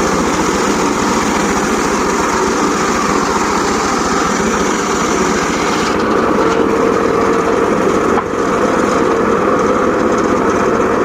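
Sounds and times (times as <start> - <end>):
small engine running: 0.0 - 11.0
steady whine: 0.0 - 11.0.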